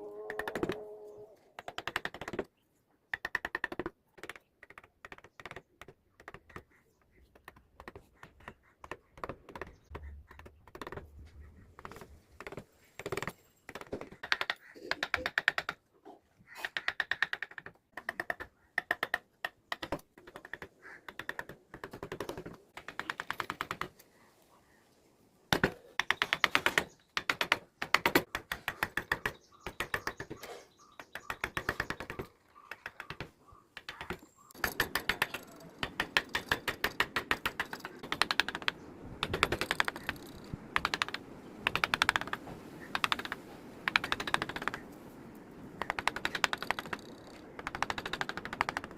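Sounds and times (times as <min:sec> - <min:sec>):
carving tools tapping wood: 0:00.3 - 0:00.8, 0:01.6 - 0:02.5, 0:03.1 - 0:11.1, 0:11.8 - 0:15.8, 0:16.5 - 0:24.0, 0:25.5 - 0:45.0, 0:45.8 - 0:48.9.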